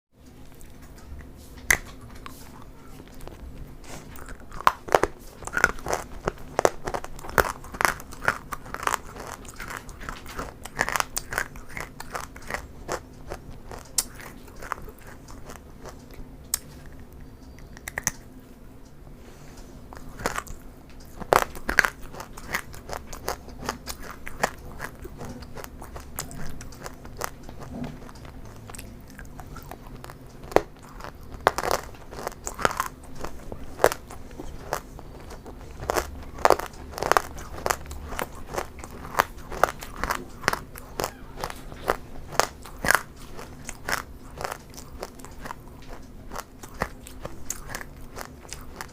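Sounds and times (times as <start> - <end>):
person chewing crunchy food: 0.3 - 18.6, 19.3 - 48.9.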